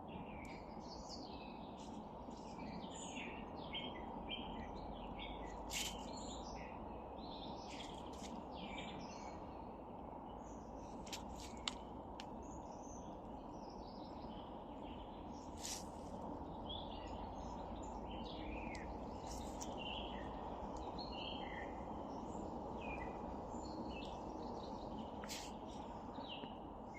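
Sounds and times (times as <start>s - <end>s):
low background rumble: 0.0s - 26.9s
songbirds chirping: 0.0s - 26.9s.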